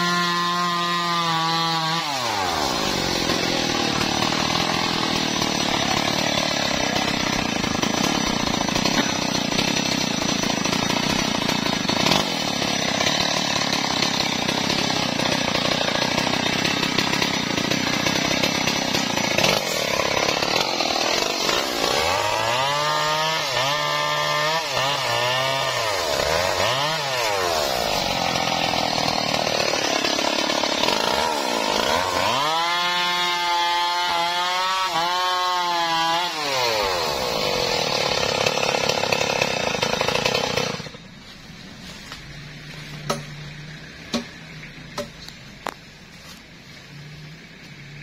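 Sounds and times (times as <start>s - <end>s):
chainsaw cutting log: 0.0s - 41.0s.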